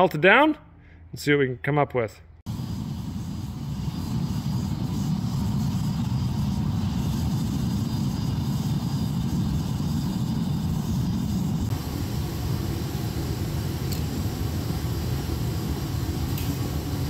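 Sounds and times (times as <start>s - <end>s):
furnace roaring: 2.5s - 17.0s.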